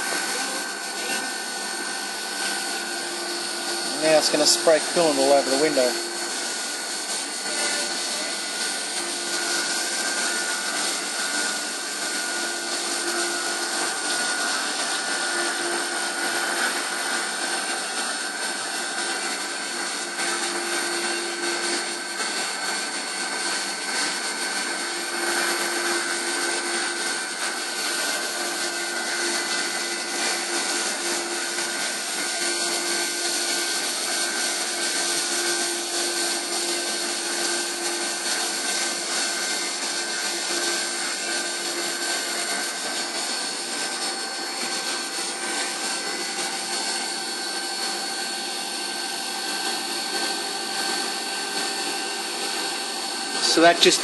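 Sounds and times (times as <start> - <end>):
spindle and cutter whining: 0.0 - 54.0.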